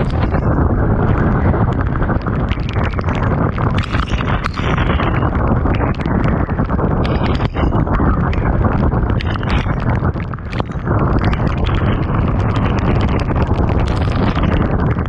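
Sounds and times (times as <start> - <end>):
heavy rain pouring: 0.0 - 15.0
raindrops tapping surfaces: 0.0 - 15.0
wind buffeting microphone: 0.0 - 15.0.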